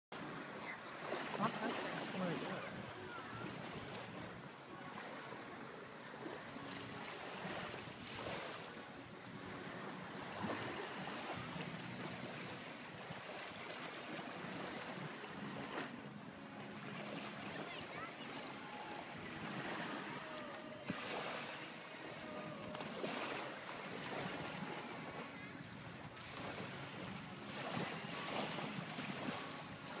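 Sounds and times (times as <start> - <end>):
small waves washing onto beach: 0.2 - 30.0.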